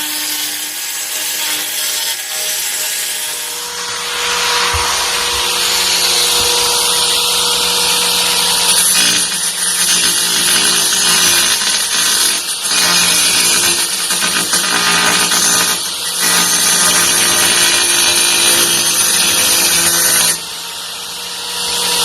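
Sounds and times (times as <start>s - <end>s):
angle grinder running under load: 0.0s - 22.0s.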